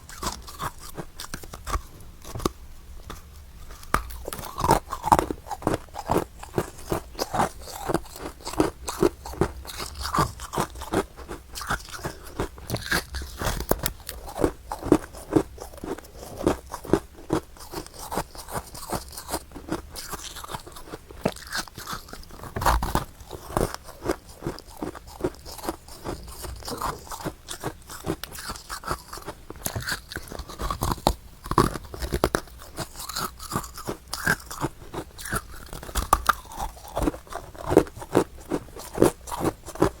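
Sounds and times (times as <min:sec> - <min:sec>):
frost being chewed: 0:00.0 - 0:40.0.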